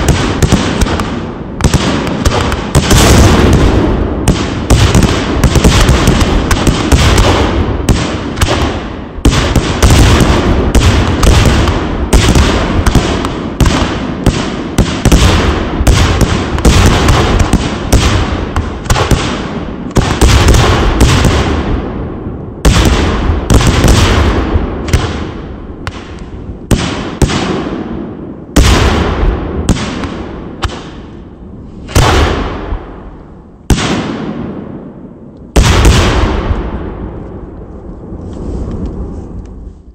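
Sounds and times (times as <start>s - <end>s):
fireworks bangs: 0.0s - 39.8s.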